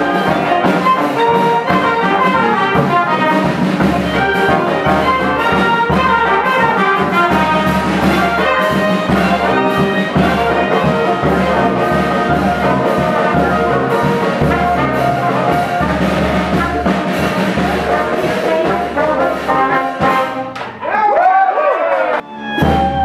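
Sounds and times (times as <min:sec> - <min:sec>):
cymbals and snare drum: 0:00.0 - 0:20.8, 0:22.5 - 0:23.0
military band playing: 0:00.0 - 0:20.8, 0:22.2 - 0:23.0.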